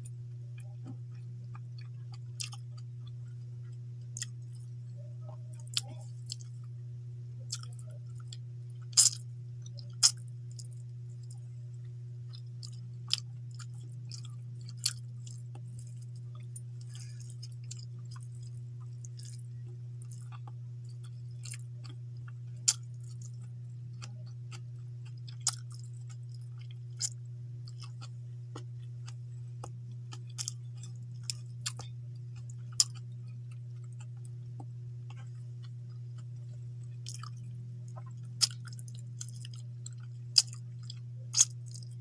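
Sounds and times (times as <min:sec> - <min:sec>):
steady low hum: 0:00.0 - 0:42.0
person chewing food: 0:00.6 - 0:04.8, 0:05.6 - 0:06.7, 0:07.5 - 0:11.4, 0:12.3 - 0:42.0.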